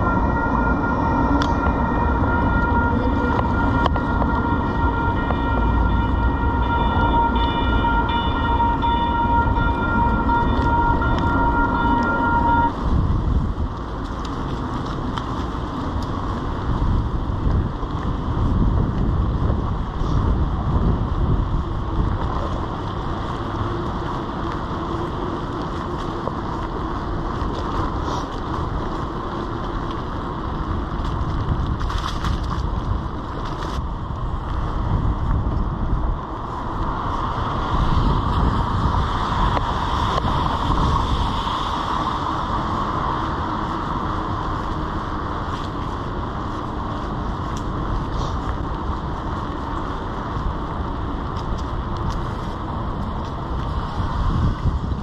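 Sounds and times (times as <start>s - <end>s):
bicycle tyres on wet pavement: 0.0s - 55.0s
wind buffeting microphone: 0.0s - 55.0s.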